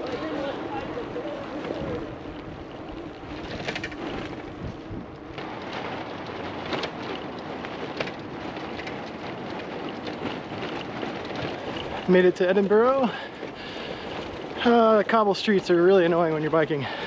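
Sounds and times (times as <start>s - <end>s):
bicycles rattling over cobblestones: 0.0s - 17.0s
tyre noise on paved path: 0.0s - 17.0s.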